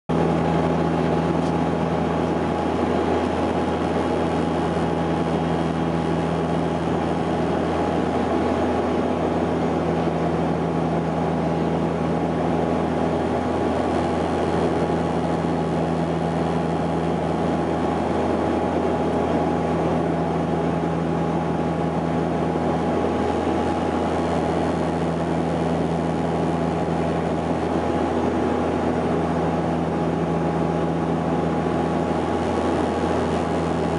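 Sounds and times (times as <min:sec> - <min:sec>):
turboprop cabin drone: 0:00.1 - 0:33.9.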